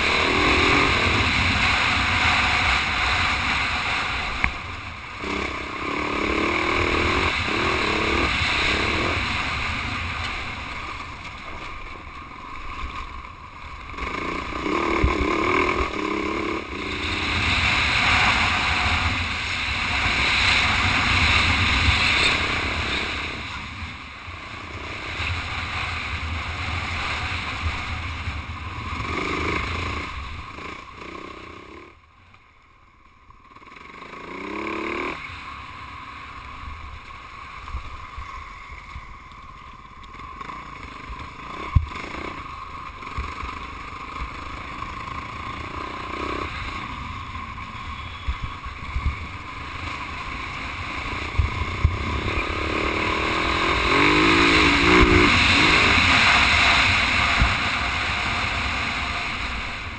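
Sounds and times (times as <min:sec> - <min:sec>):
dirt bike engine revving: 0:00.0 - 0:32.0, 0:33.5 - 0:35.6, 0:40.2 - 0:59.9.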